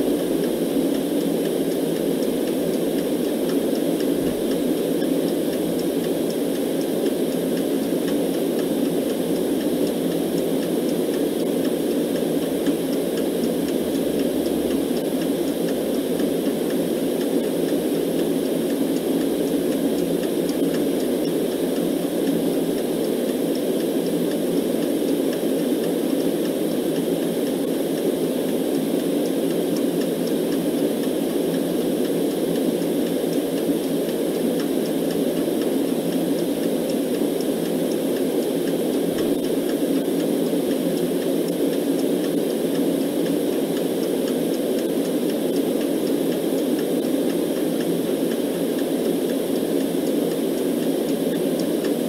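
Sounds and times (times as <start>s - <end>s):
white noise hiss: 0.0s - 52.0s.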